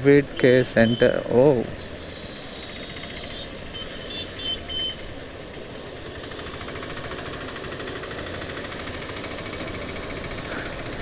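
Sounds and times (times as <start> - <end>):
wind and road noise: 0.0 - 11.0
motorcycle engine running: 0.2 - 11.0.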